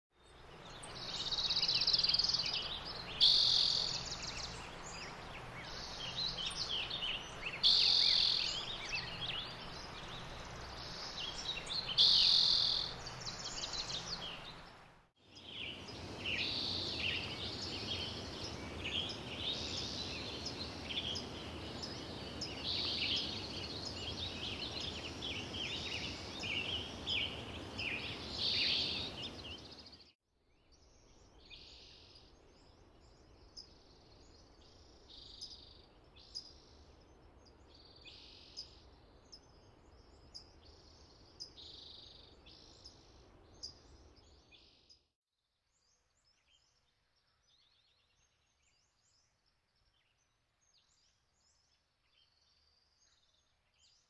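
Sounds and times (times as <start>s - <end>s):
songbirds singing and calling: 0.2s - 45.1s, 45.7s - 54.0s.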